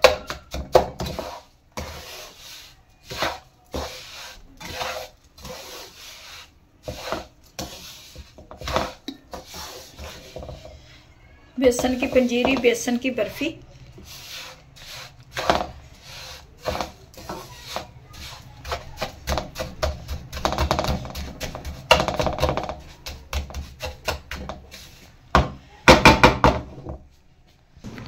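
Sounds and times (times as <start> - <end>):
spatula scraping frying pan: 0.0 - 11.0, 11.6 - 25.2.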